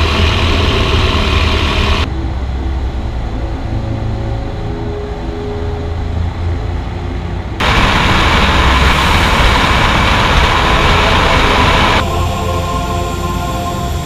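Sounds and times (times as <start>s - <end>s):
rush of airflow and engine: 0.0s - 3.9s, 5.8s - 14.0s
radial engine droning: 0.0s - 14.0s.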